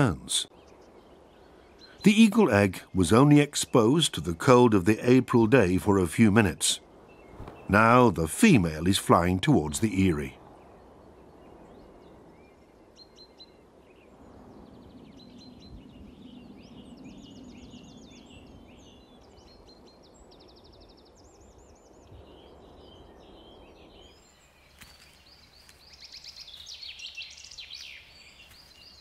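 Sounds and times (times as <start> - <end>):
small birds chirping and trilling: 0.0 - 29.0.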